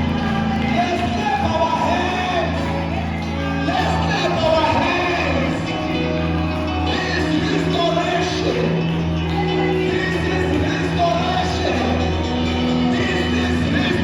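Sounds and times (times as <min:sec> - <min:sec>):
held bass notes: 0:00.0 - 0:14.0
voices singing praise music: 0:00.0 - 0:14.0.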